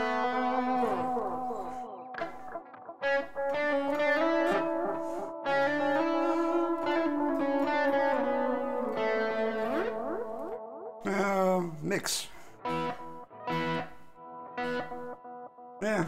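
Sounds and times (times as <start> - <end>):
overdriven electric guitar with delay: 0.0 - 11.2, 12.6 - 15.8.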